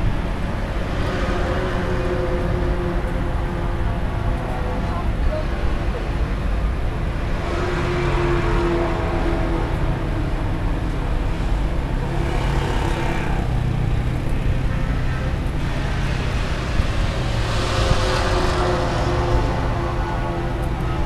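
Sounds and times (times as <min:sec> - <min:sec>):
outdoor background noise: 0:00.0 - 0:21.0
vehicle engine rumbling: 0:00.0 - 0:21.0.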